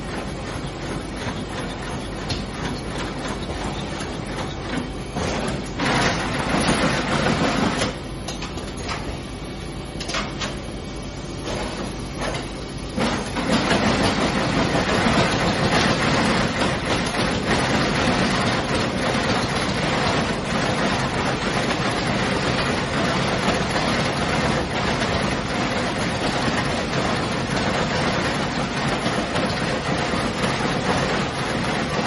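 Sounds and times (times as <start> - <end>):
machine clattering with rapid clicks: 0.0 - 9.2, 9.9 - 10.7, 11.4 - 32.0.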